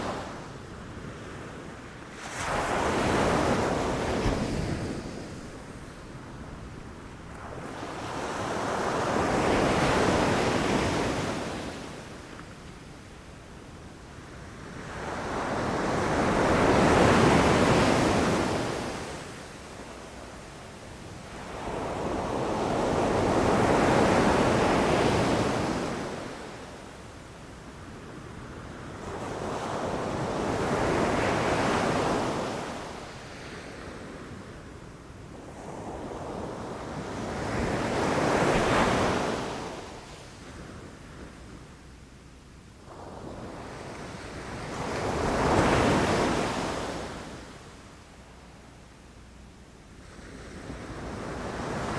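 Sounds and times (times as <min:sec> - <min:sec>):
waves breaking on a beach: 0:00.0 - 0:42.0, 0:42.8 - 0:48.8.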